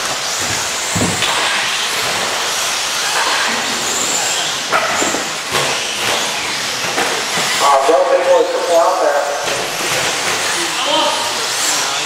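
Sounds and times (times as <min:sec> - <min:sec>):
rc truck motors and tyres hissing: 0:00.0 - 0:07.7, 0:09.7 - 0:12.0.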